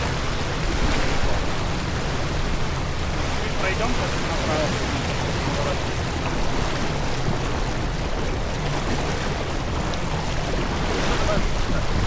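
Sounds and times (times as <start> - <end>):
water rushing past boat: 0.0 - 12.0.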